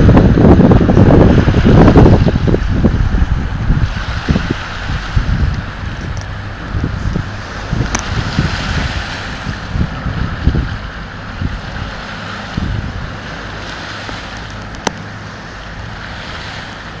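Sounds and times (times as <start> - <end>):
boat engine hum: 0.0 - 17.0
waves washing: 0.0 - 17.0
wind buffeting microphone: 0.0 - 17.0.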